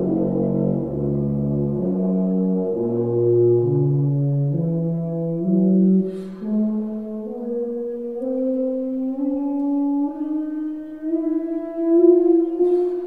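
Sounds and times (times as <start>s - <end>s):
tuba slurring notes: 0.0s - 13.0s.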